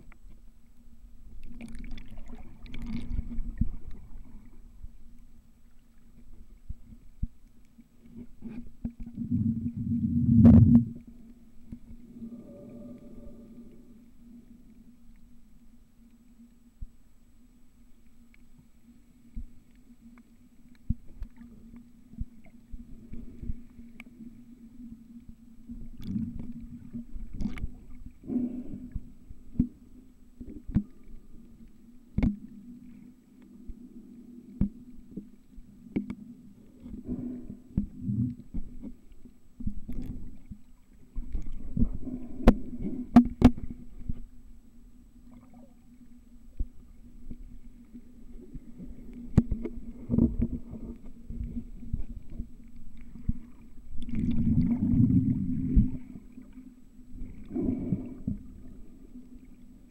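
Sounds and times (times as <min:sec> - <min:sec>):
muffled underwater water movement: 0:00.0 - 0:59.9.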